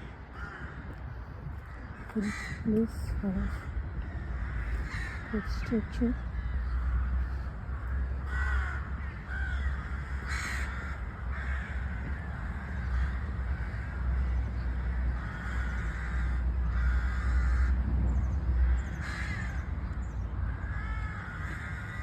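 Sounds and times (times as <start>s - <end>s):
crows cawing: 0.0s - 22.0s
steady low rumble: 0.0s - 22.0s.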